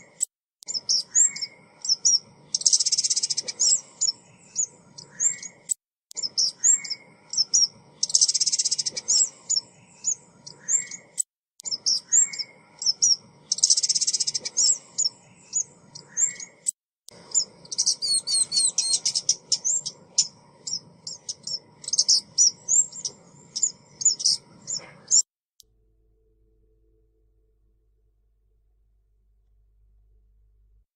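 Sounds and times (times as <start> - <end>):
bird high chirps and trills: 0.0 - 25.3.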